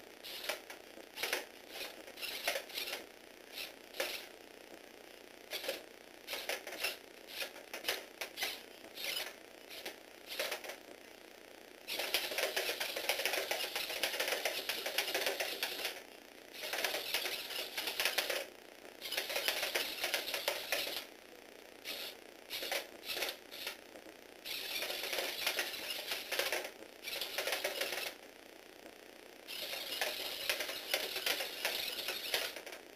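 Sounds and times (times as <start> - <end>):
toy motor whirring: 0.2 - 4.3, 5.5 - 10.8, 11.9 - 16.0, 16.6 - 21.1, 21.8 - 23.8, 24.4 - 28.2, 29.5 - 32.8.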